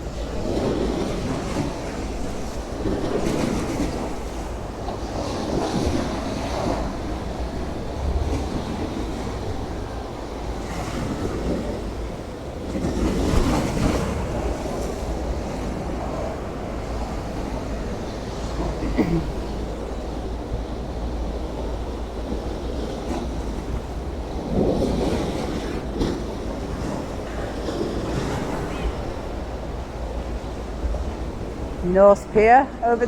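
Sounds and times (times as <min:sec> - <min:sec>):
sea waves breaking: 0:00.0 - 0:33.0
wind rumble on microphone: 0:00.0 - 0:33.0.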